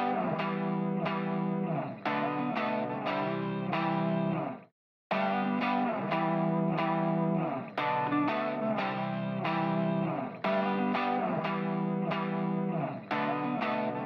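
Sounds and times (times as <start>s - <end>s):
guitar plucking with effects: 0.0s - 14.0s.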